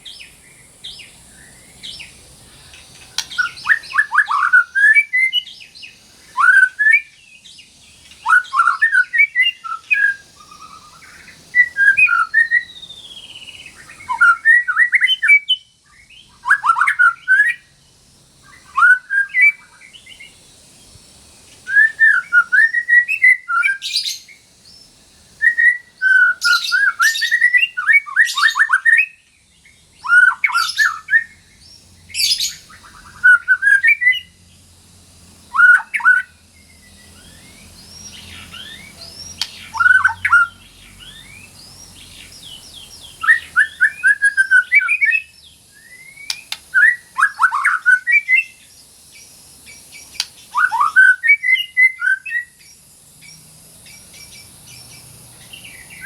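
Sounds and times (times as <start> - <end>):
bird singing varied phrases: 0.0 - 21.0, 21.6 - 34.7, 35.4 - 56.0.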